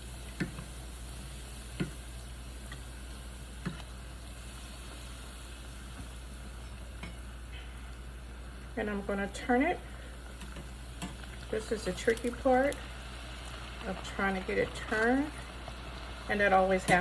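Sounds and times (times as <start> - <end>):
taco shell sizzling in oil: 0.0 - 17.0.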